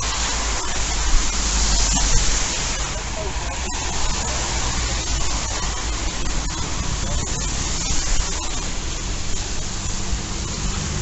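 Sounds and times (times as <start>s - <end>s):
loud rushing noise: 0.0s - 11.0s.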